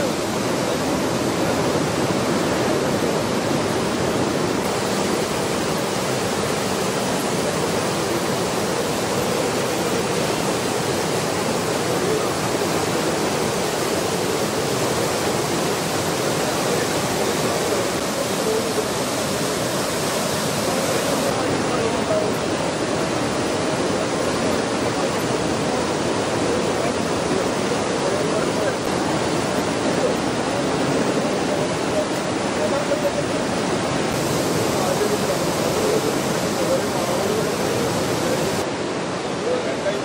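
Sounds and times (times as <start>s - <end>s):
floodwater rushing: 0.0s - 40.0s.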